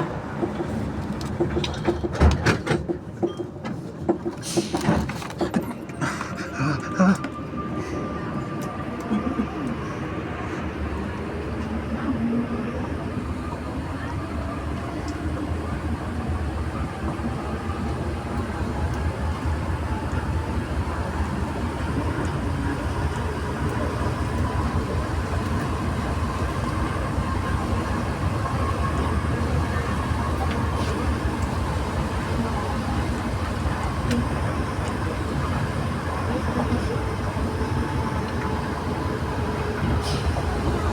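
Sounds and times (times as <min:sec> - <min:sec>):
train interior rumble: 0:00.0 - 0:40.9.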